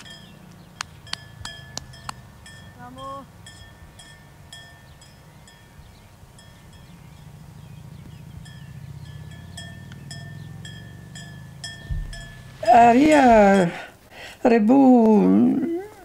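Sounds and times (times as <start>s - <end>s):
goat bells clinking: 0.0s - 7.4s, 8.4s - 13.9s.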